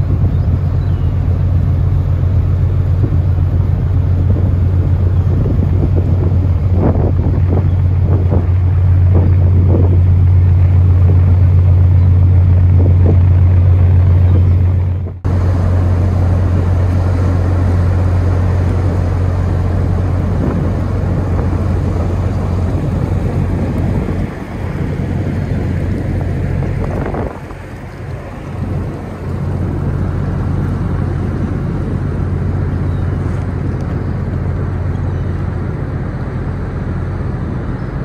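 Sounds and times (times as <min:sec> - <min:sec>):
ship engine drone: 0:00.0 - 0:38.0
wind noise on microphone: 0:00.0 - 0:38.0.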